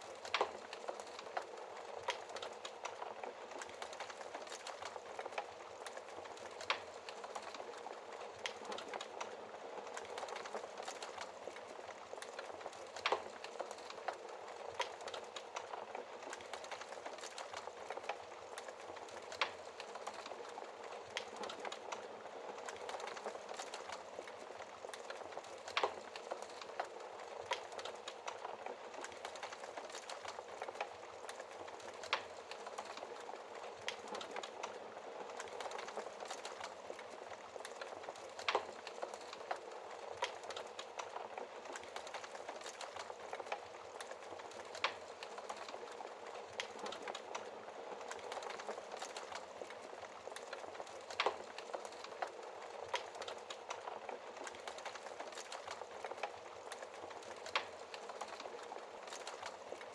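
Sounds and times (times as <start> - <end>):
burning logs popping: 0.0 - 59.9
wood fire crackling: 0.0 - 59.9.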